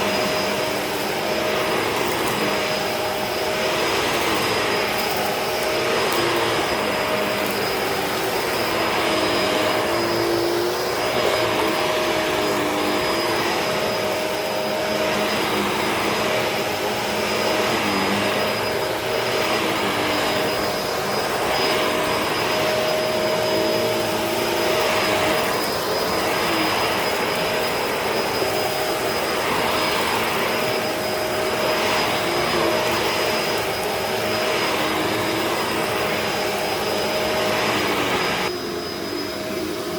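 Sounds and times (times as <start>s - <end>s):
vacuum brush-roll on carpet: 0.0s - 39.9s
vacuum cleaner motor whine: 0.0s - 39.9s.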